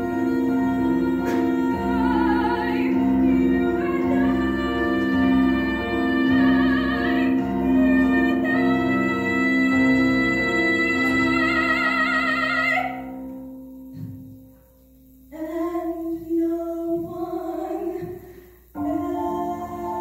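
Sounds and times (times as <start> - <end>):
woman singing ballad: 0.0 - 13.2, 15.3 - 20.0.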